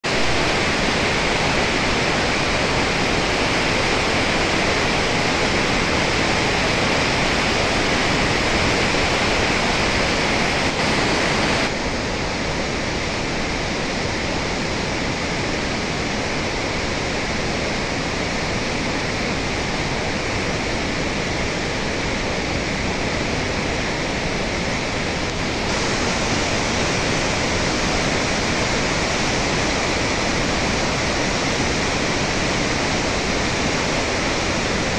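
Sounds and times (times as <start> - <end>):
churning water rushing: 0.0 - 34.9.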